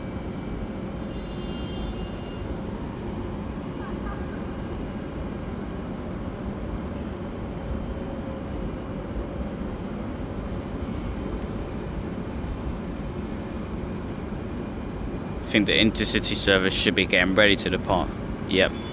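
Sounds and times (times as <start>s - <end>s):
faint hum: 0.0s - 18.9s.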